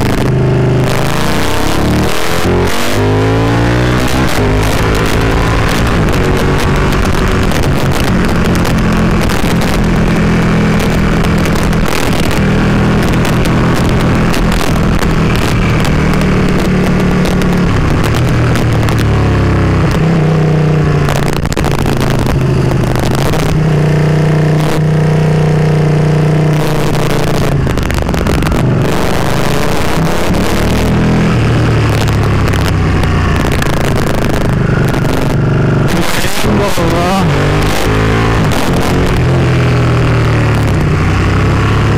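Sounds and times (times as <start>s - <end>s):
wind rush: 0.0s - 25.1s, 26.4s - 41.9s
motorcycle engine revving: 0.0s - 41.9s.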